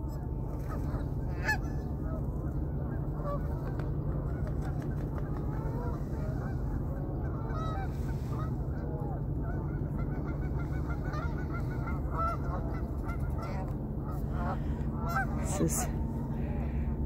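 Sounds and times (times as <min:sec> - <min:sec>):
low rumble: 0:00.0 - 0:17.0
geese honking: 0:00.5 - 0:16.9.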